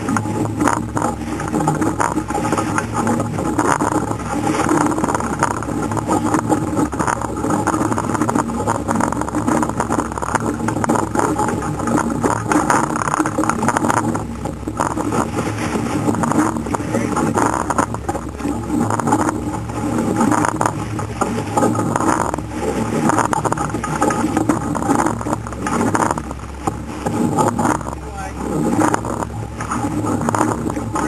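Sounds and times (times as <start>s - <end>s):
water rushing past hull: 0.0s - 31.0s
wind buffeting microphone: 0.0s - 31.0s.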